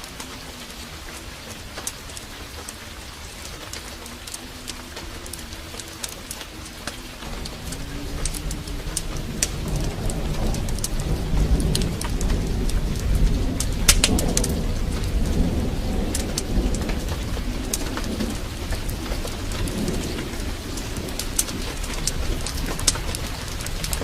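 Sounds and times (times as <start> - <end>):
fire crackling and popping: 0.0 - 24.0
heavy rain: 0.0 - 24.0
thunder rumble: 0.0 - 24.0.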